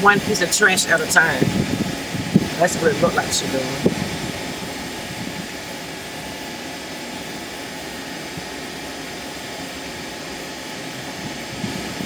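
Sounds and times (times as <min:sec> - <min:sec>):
air conditioning blower: 0:00.0 - 0:12.0.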